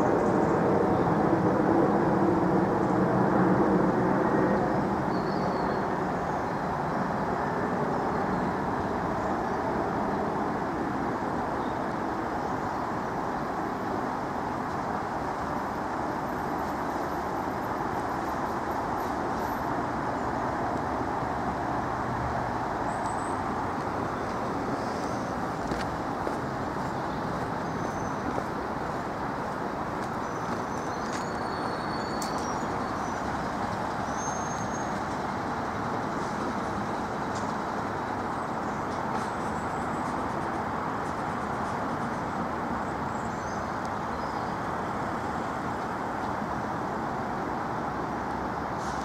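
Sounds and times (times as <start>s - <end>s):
road traffic roar: 0.0s - 49.0s.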